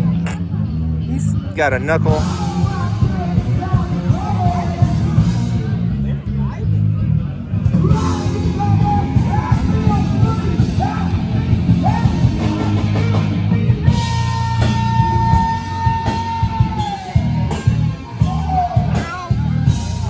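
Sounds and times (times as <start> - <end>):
heavy rock music: 0.0 - 20.0
person shouting and singing: 1.3 - 5.5, 7.7 - 20.0.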